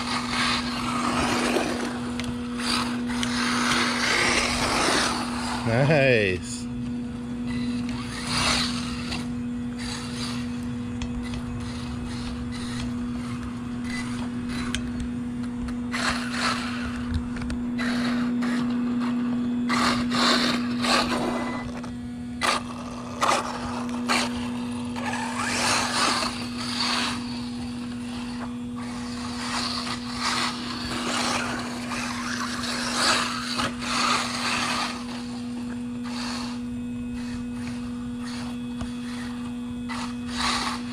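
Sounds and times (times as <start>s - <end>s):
rc car motor throttle bursts: 0.0s - 5.8s, 7.5s - 10.6s, 11.5s - 14.8s, 15.9s - 17.1s, 17.8s - 40.9s
steady low hum: 0.0s - 40.9s.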